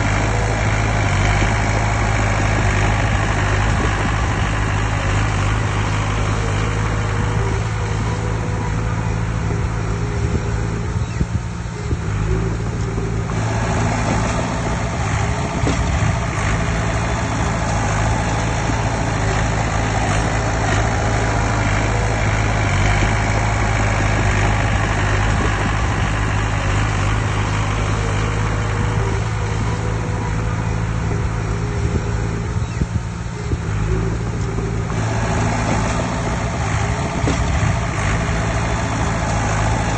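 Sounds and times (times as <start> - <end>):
heavy diesel engine droning: 0.0 - 39.9
heavy working noise: 0.0 - 39.9.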